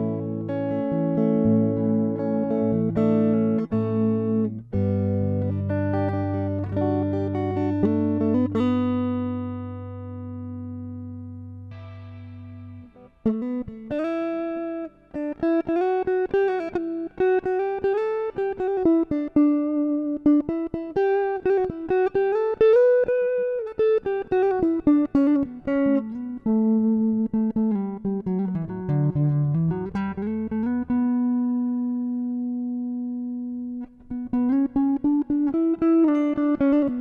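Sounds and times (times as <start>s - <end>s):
electric guitar lead melody: 0.0s - 37.0s.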